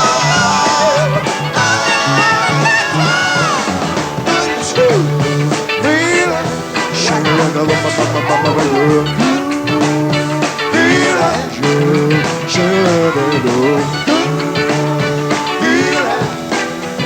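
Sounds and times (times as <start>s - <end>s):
live rock and roll band playing: 0.0s - 17.0s.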